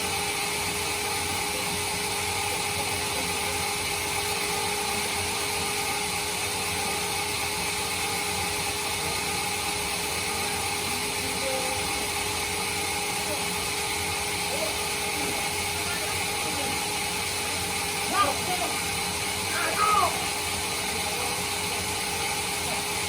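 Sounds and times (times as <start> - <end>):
bandsaw running: 0.0 - 23.0.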